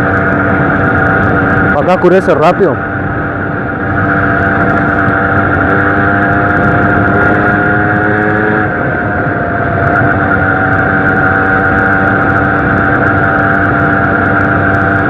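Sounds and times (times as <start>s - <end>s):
moped engine running: 0.0s - 15.0s.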